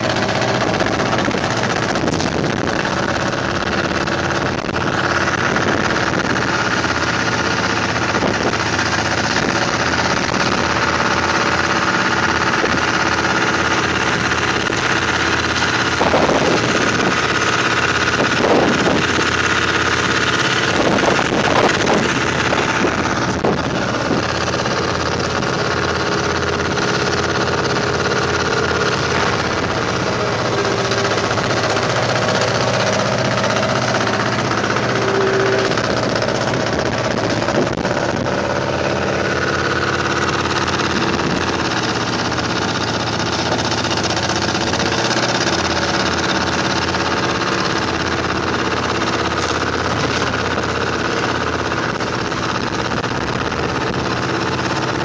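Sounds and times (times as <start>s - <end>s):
construction machinery engine running: 0.0s - 55.0s.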